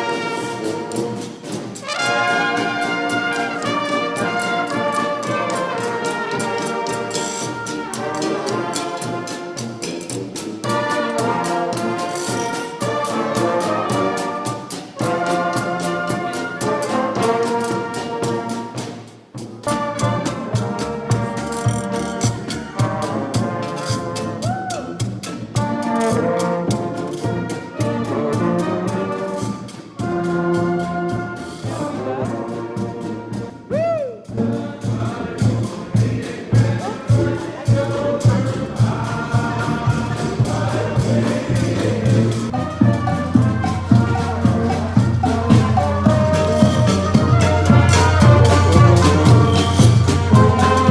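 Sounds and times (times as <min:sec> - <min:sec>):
brass band playing: 0:00.0 - 0:50.9.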